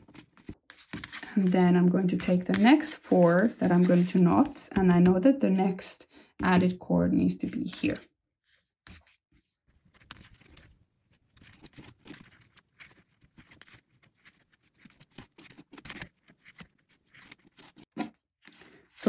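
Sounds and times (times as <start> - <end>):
cord rustling and scratching on paper: 0.0 - 4.7, 7.6 - 19.0.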